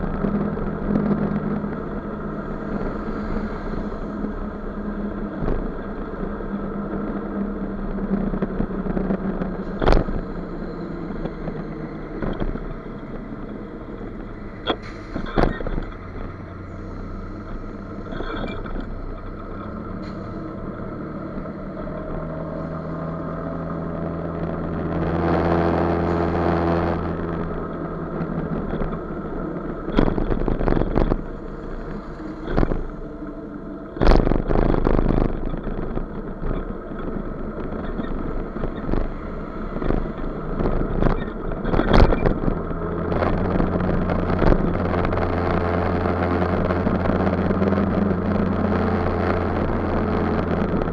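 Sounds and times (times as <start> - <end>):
motor scooter engine droning: 0.0 - 50.9
wind noise on microphone: 0.0 - 50.9.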